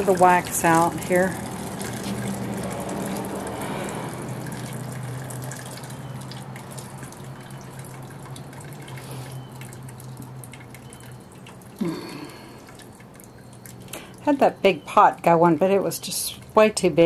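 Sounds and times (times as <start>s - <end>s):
water dripping and splashing: 0.0s - 17.0s.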